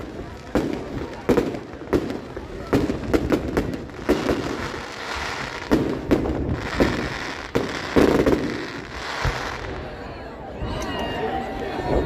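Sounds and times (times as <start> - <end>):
fireworks bangs: 0.0 - 10.0
fireworks crackling: 0.0 - 10.1.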